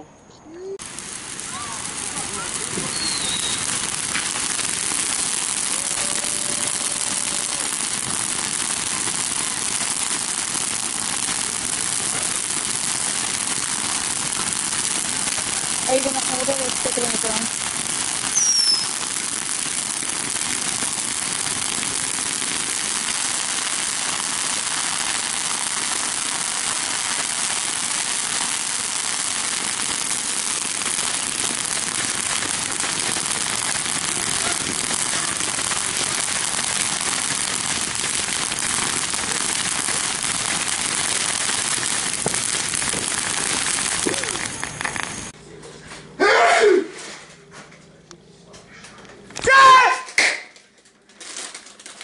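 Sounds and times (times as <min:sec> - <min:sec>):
firework hissing: 0:00.8 - 0:45.4.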